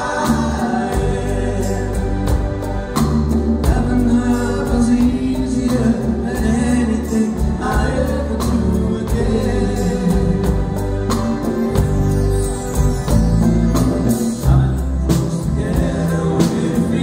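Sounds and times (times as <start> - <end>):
men singing in harmony: 0.0 - 11.8, 13.7 - 17.0
bass guitar: 0.0 - 17.0
drums: 0.0 - 17.0.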